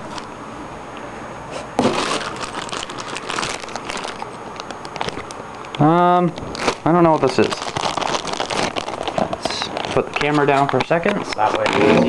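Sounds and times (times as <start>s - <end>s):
plastic bag crinkling: 1.8s - 11.9s
papers rustling: 1.8s - 12.0s.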